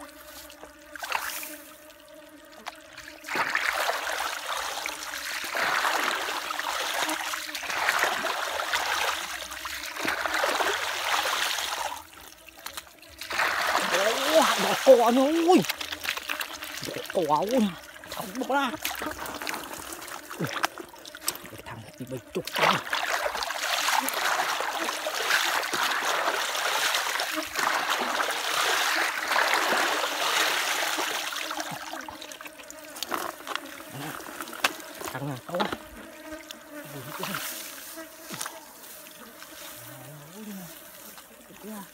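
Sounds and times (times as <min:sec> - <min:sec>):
muddy water splashing through mesh: 0:00.0 - 0:41.9.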